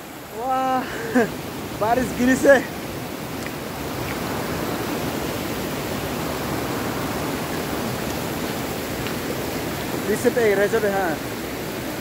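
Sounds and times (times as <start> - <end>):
rain falling: 0.0 - 12.0
river rushing over boulders: 0.0 - 12.0.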